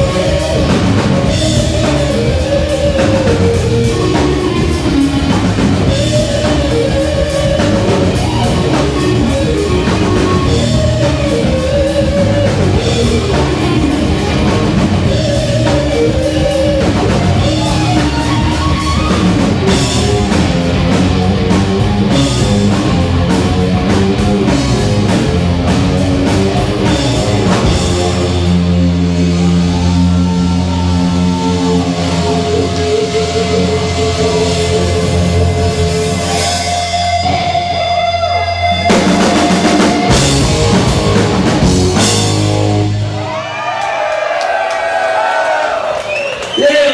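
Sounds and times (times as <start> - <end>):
sustained guitar and bass notes: 0.0 - 43.5
rock band playing: 0.0 - 46.9.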